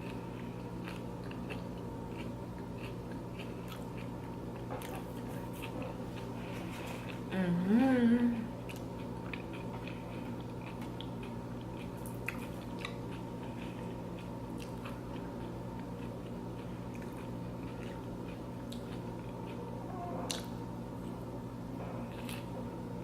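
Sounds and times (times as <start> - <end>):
person chewing food: 0.0 - 7.3, 8.6 - 21.2, 21.9 - 22.6.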